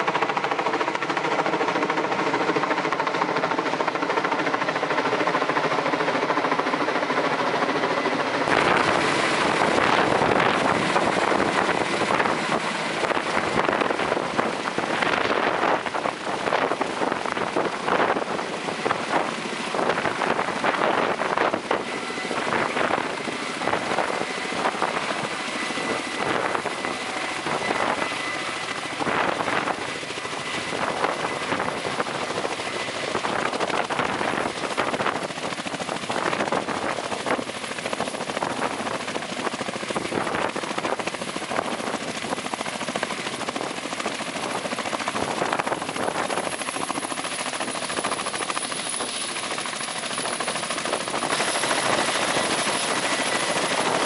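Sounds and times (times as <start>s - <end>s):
helicopter turbine and rotor noise: 0.0s - 54.0s.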